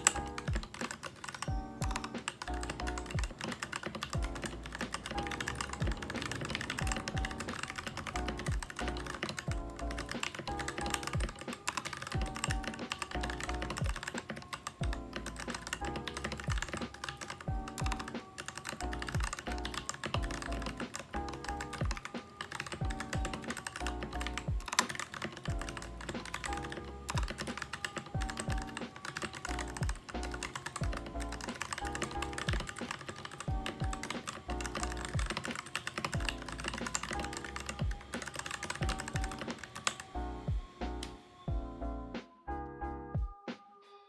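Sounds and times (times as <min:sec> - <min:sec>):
mechanical keyboard typing: 0:00.0 - 0:41.2
background music with steady beat: 0:00.0 - 0:44.0.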